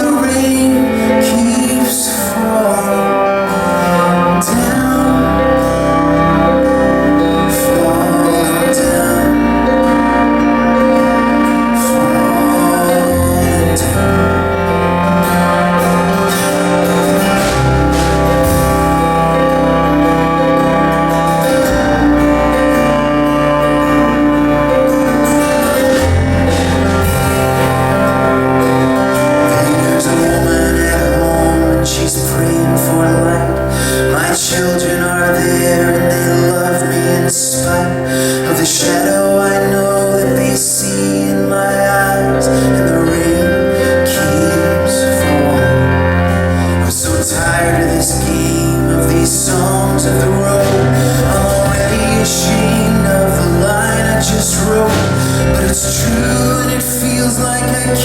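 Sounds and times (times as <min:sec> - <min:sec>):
live band playing instrumental: 0:00.0 - 0:58.0.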